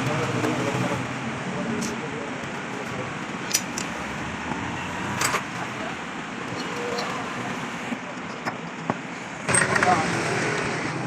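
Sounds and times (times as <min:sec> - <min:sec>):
vehicle and street noise: 0:00.0 - 0:11.0.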